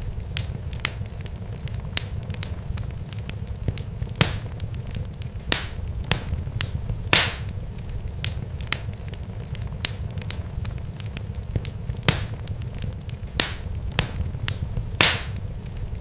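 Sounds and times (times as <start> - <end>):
sharp crackles and pops: 0.0 - 16.0
steady low rumble: 0.0 - 16.0.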